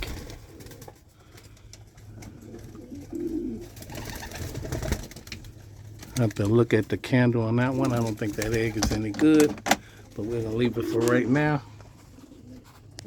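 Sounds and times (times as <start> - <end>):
pigeons cooing: 0.0 - 6.4, 7.7 - 13.0.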